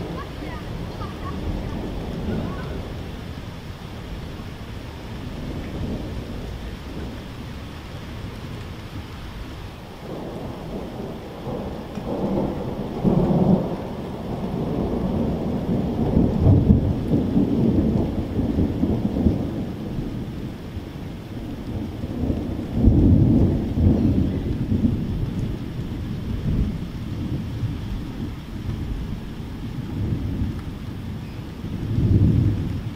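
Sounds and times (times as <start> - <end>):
steady rain: 0.0 - 32.9
thunder rumbling: 0.0 - 32.9.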